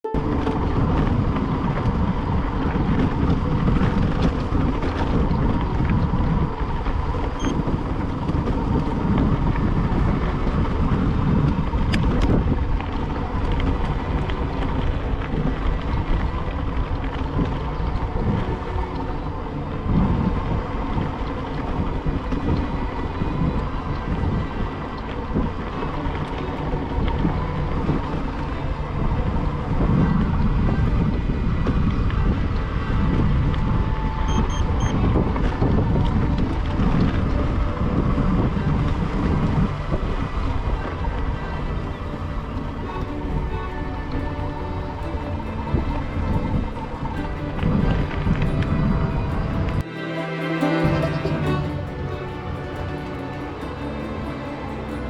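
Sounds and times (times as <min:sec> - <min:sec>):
low rumble from bicycle ride: 0:00.0 - 0:49.9
wind buffeting microphone: 0:00.0 - 0:49.9.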